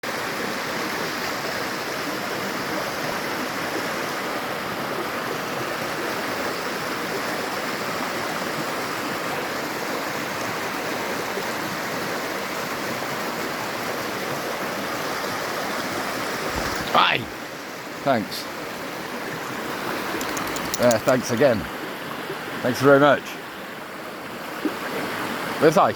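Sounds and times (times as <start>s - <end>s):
river flowing: 0.2s - 25.9s.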